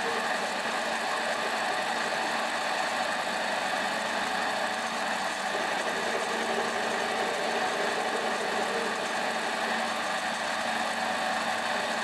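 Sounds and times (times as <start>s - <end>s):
lathe humming: 0.0s - 11.7s.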